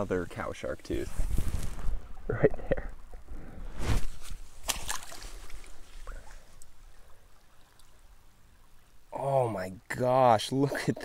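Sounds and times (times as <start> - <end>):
faint low hiss: 0.0 - 11.0.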